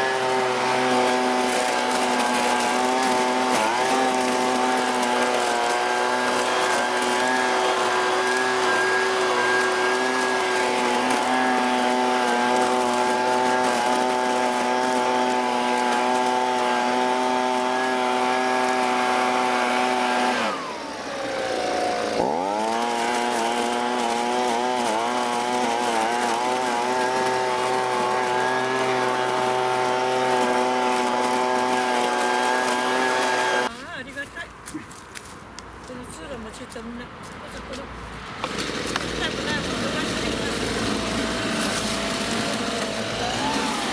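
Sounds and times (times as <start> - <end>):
leaf blower engine running: 0.0 - 34.3, 37.5 - 43.9.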